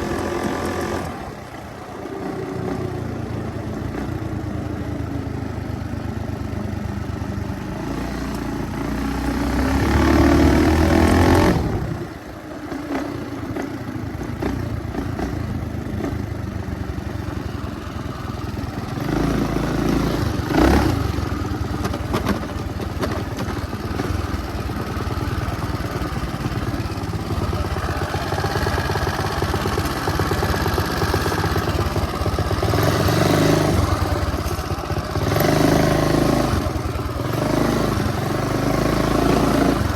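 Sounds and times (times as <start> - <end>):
motorbike engine revving: 0.0 - 3.2, 7.7 - 16.5, 18.2 - 39.9.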